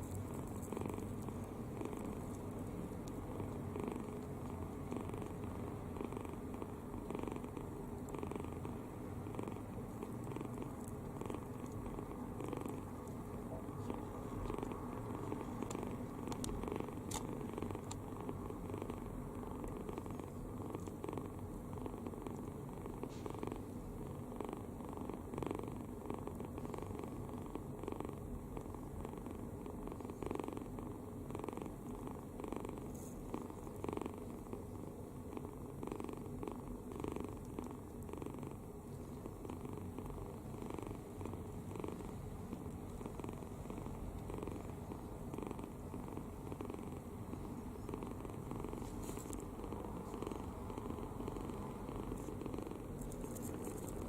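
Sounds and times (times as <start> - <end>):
kitten snoring: 0.0 - 54.0.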